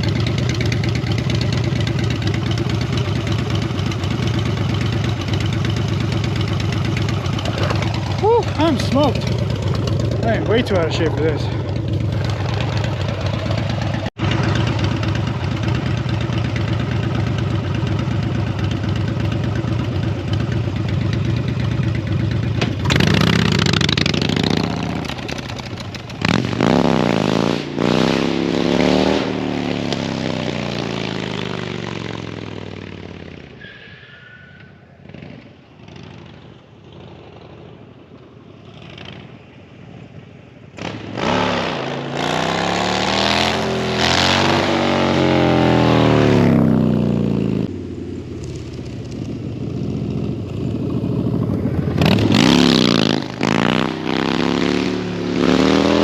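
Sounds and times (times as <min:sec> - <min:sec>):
motorcycle engine idling and revving: 0:00.0 - 0:33.7, 0:34.6 - 0:56.0.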